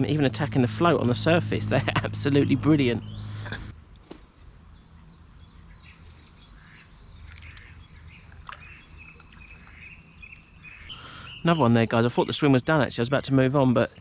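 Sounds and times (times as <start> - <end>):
low outdoor rumble: 0.0 - 14.0
small birds chirping faintly: 0.0 - 14.0.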